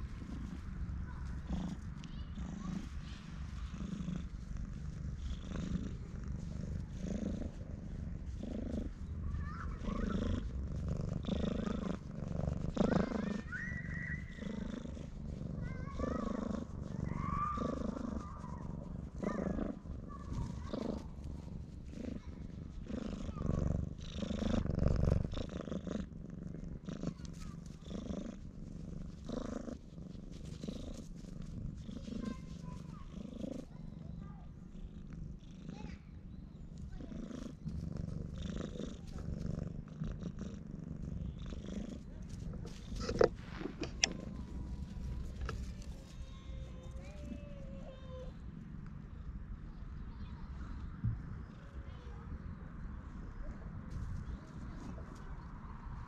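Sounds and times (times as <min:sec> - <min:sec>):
cat purring loudly: 0:00.0 - 0:56.0.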